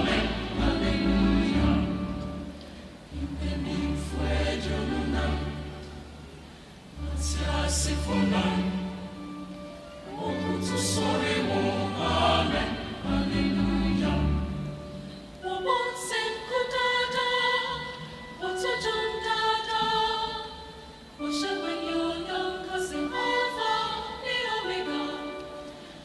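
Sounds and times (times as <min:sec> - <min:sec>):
mixed choir singing in harmony: 0:00.0 - 0:26.0.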